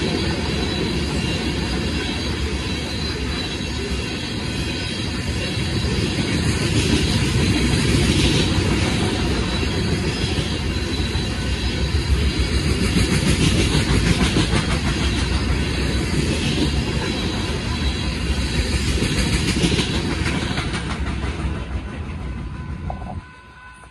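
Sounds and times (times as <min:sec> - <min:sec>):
train wheels rumbling on rail: 0:00.0 - 0:23.9.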